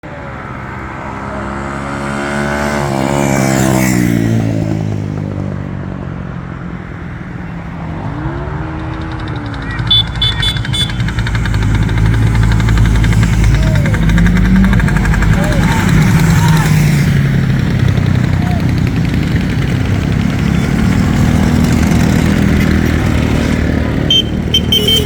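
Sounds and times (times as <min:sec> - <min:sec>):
motorcycle passing by: 0:00.1 - 0:25.0
motorcycle engine revving: 0:00.2 - 0:05.8, 0:07.3 - 0:25.0.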